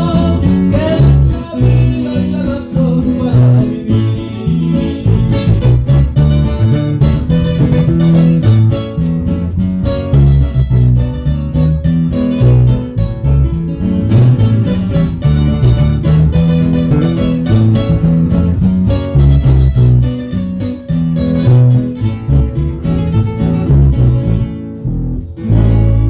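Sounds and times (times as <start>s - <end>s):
bass line: 0.0s - 26.0s
plucked guitar notes: 0.0s - 26.0s.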